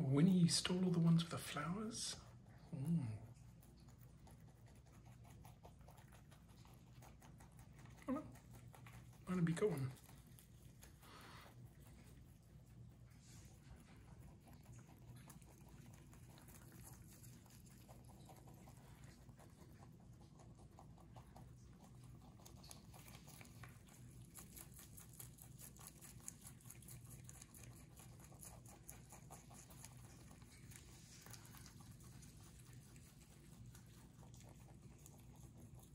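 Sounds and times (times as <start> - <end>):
rabbits chewing leaves: 0.0 - 35.9.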